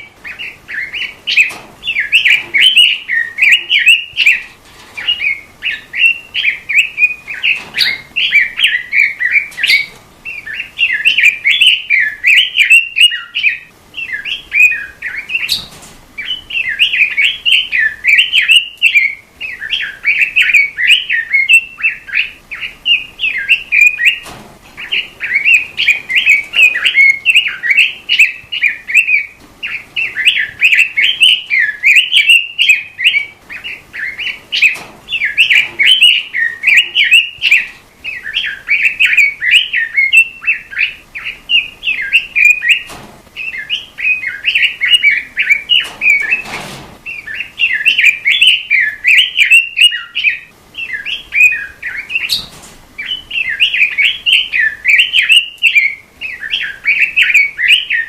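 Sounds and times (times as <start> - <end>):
robin singing: 0.0 - 58.0.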